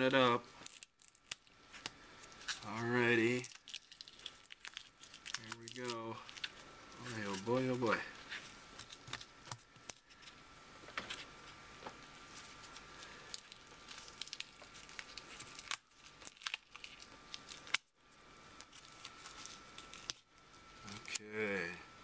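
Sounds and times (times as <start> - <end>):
faint steady hum: 0.0 - 22.0
adhesive tape crackling and tearing: 0.1 - 10.2, 12.3 - 17.9, 18.5 - 21.4.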